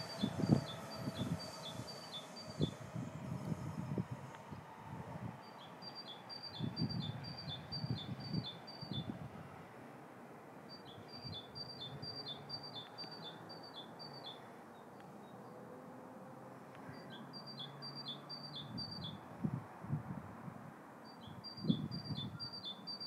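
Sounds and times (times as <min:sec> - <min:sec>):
songbird singing: 0:00.0 - 0:09.2, 0:10.6 - 0:15.8, 0:16.6 - 0:19.3, 0:21.0 - 0:23.0.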